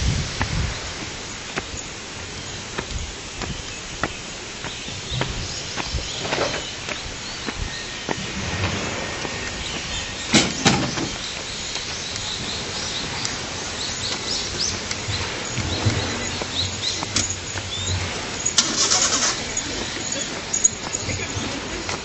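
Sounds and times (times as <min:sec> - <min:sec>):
background hiss: 0:00.0 - 0:22.0
small birds chirping: 0:00.1 - 0:22.0.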